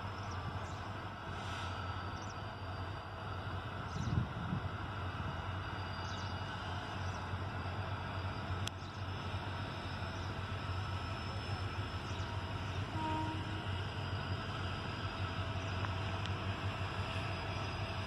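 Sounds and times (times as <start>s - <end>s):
distant diesel locomotives rumbling: 0.0s - 18.0s.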